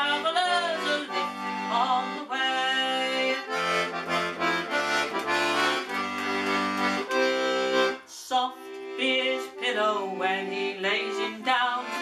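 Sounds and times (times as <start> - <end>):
accordion playing folk music: 0.0 - 12.0.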